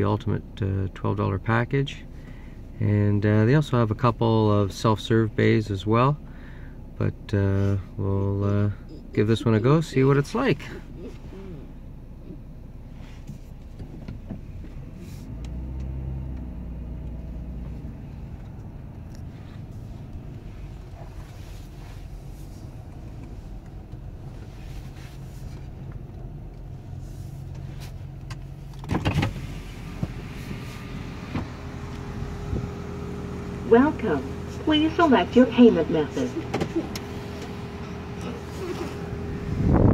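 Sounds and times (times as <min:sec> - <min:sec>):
minivan cabin hum: 0:00.0 - 0:39.9
outside noise: 0:05.9 - 0:39.9.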